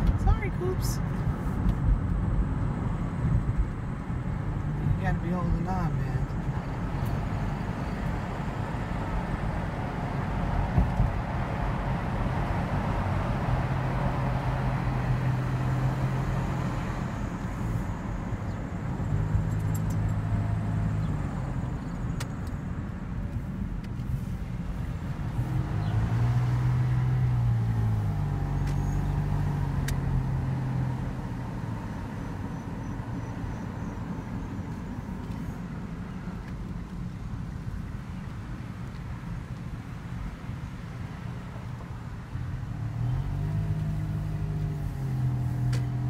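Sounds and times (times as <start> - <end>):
car engine hum: 0.0 - 46.0
road noise: 0.0 - 46.0.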